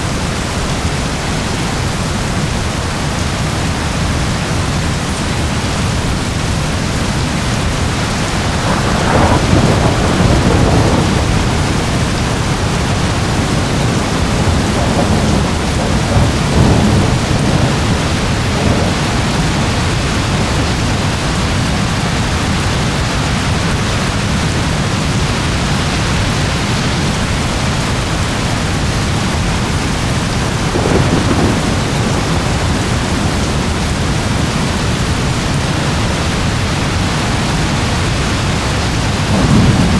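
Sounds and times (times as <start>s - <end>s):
heavy rain: 0.0s - 39.9s
thunder rumbling: 0.1s - 39.9s.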